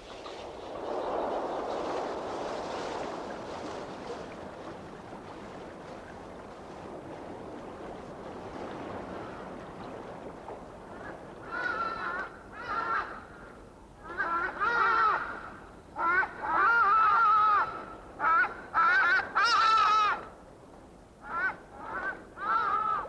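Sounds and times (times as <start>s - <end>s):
wind and choppy waves: 0.0s - 23.0s.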